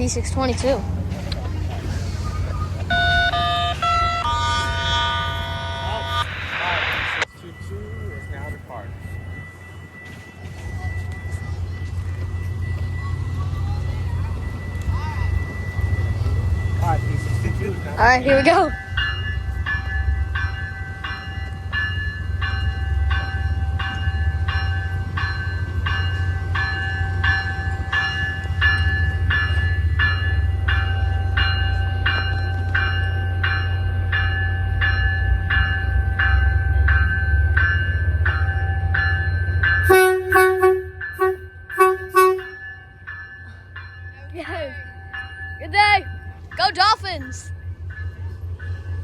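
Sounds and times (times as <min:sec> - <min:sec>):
railroad crossing bell ringing: 0:00.0 - 0:06.4, 0:07.2 - 0:49.0
diesel locomotive rumble: 0:00.0 - 0:49.0.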